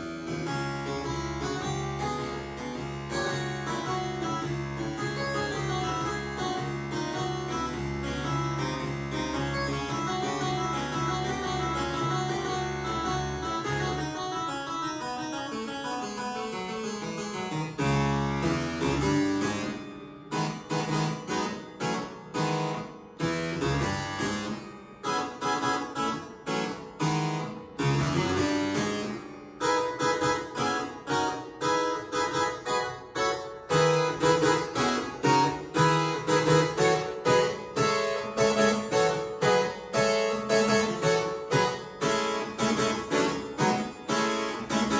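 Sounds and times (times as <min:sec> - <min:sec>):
harpsichord playing blues: 0:00.0 - 0:44.9.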